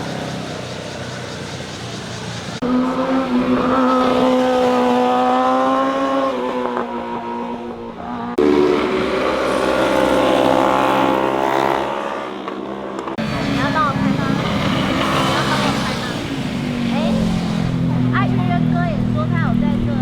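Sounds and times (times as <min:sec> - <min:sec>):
motorcycle engine accelerating: 0:00.0 - 0:20.0
motorcycle engine passing by: 0:00.0 - 0:20.0.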